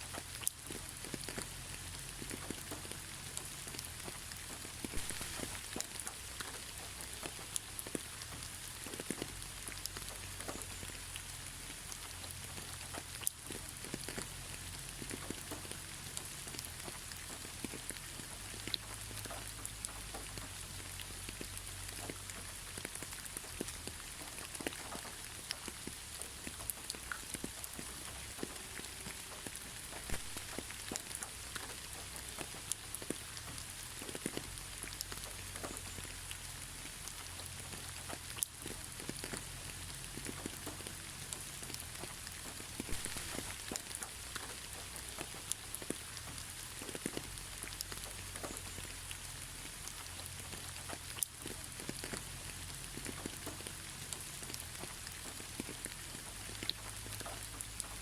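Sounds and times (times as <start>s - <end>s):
raindrops ticking on a surface: 0.0s - 58.0s
steady rain: 0.0s - 58.0s.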